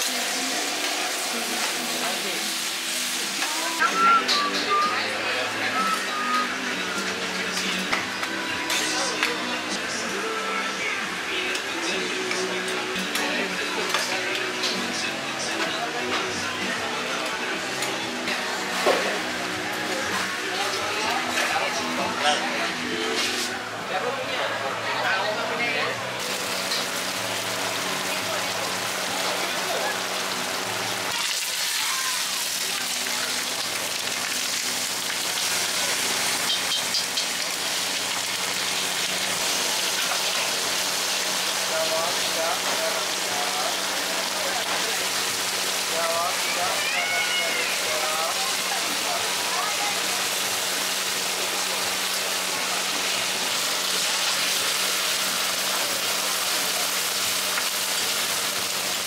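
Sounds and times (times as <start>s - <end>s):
fish sizzling on a griddle: 0.0s - 23.5s, 26.2s - 59.0s.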